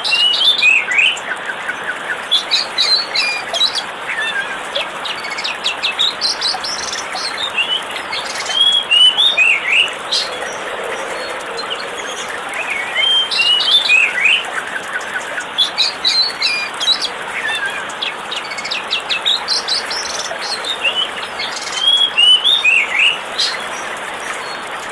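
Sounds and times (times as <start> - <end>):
birds chirping: 0.0 - 24.9
waterfall rushing: 0.0 - 24.9.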